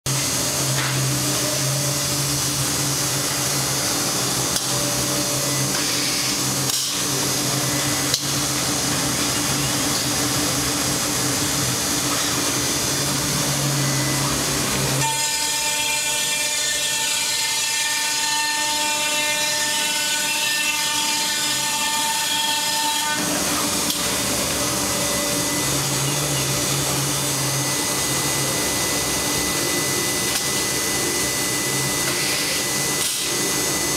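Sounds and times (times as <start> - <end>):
high machine whine: 0.1 - 33.9
woodworking machine whirring: 0.1 - 33.9.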